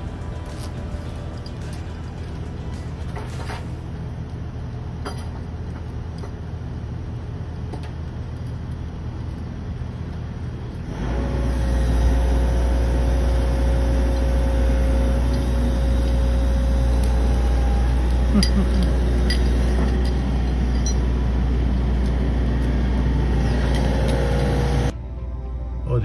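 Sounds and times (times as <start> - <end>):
excavator diesel engine: 0.0 - 25.0
steady whine: 0.0 - 26.0.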